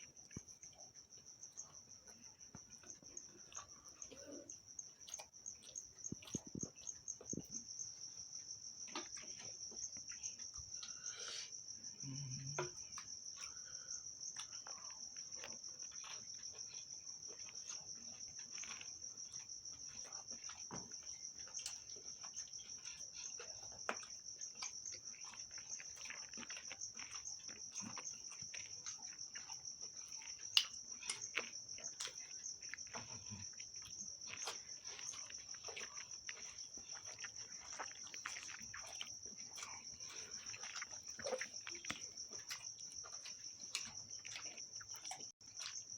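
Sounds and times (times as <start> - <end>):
chewing and eating clicks: 0.0 - 11.1, 12.0 - 45.9
cricket trill: 0.0 - 45.9.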